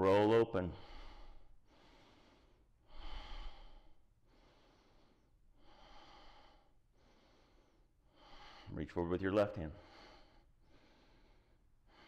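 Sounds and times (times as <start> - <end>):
man breathing slowly: 0.6 - 8.8, 9.7 - 12.0.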